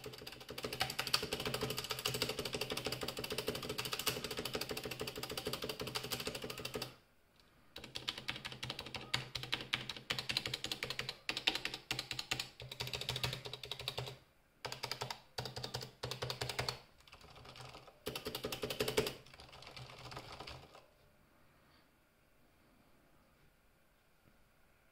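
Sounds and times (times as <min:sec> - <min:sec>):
fast typing on mechanical keyboard: 0:00.0 - 0:07.0, 0:07.8 - 0:20.9.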